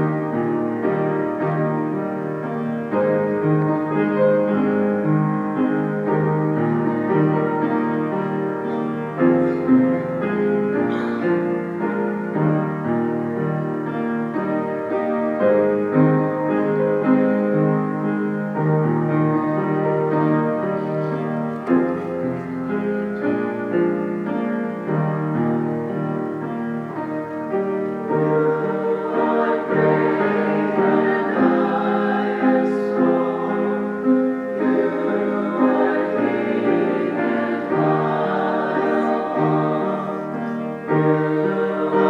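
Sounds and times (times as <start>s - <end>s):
piano chords: 0.0s - 42.0s.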